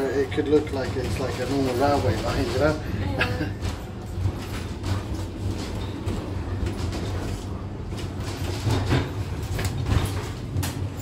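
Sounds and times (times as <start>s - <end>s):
funicular car rumbling: 0.0s - 11.0s.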